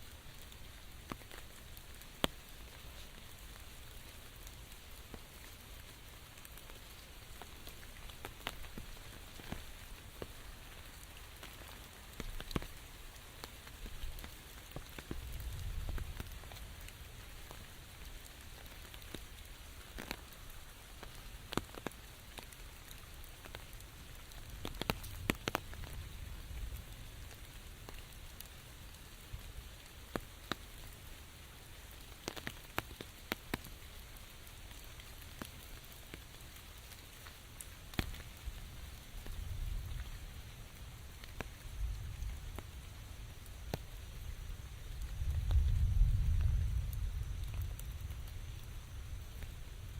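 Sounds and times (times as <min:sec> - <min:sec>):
steady rain in a forest: 0:00.0 - 0:49.9.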